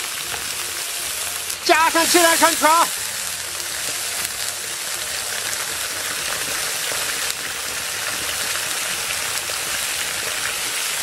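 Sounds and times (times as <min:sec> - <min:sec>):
water pouring into hot oil: 0:00.0 - 0:11.0.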